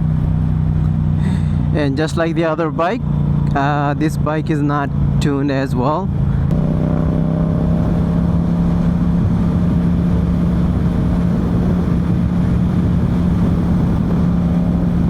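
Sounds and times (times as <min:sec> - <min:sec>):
motorcycle engine cruising steadily: 0:00.0 - 0:15.0.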